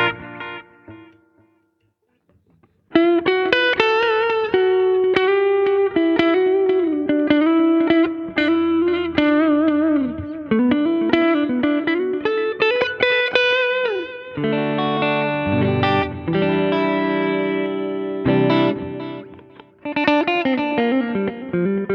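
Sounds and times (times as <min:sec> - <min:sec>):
electric guitar lead line: 0:00.0 - 0:01.6, 0:02.9 - 0:21.9.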